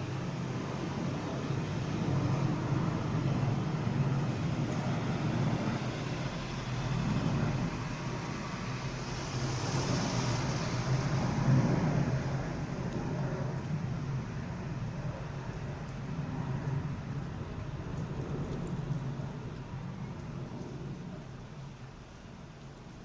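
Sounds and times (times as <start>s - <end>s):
road traffic rumble: 0.0s - 23.0s
car passing: 0.1s - 21.1s.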